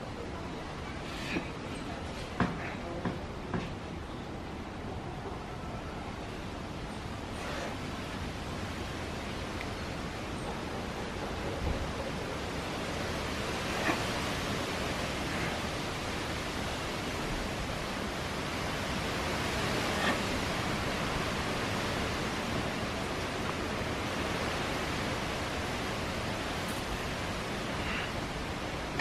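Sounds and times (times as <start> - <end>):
outdoor background hiss: 0.0 - 29.0.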